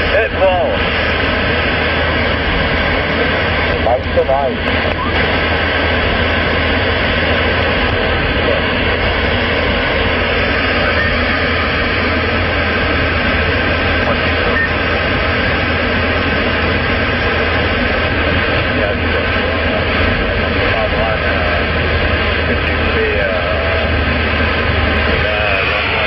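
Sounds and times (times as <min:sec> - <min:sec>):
truck road and engine noise: 0:00.0 - 0:26.0.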